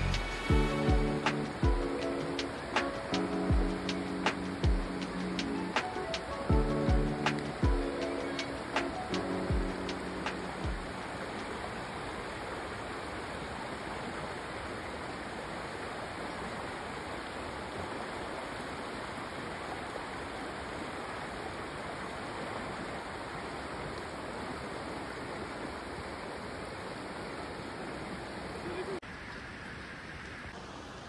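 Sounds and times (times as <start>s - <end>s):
creek rushing over stones: 0.0s - 31.0s.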